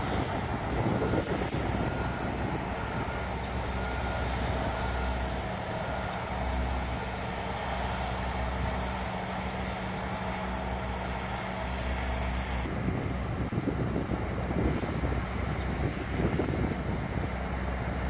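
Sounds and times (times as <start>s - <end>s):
diesel engines humming: 0.0s - 18.0s
machinery and road noise: 0.0s - 18.0s.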